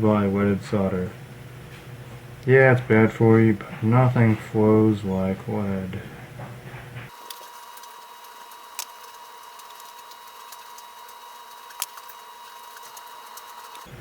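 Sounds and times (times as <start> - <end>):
faint electrical whine: 0.0 - 14.0.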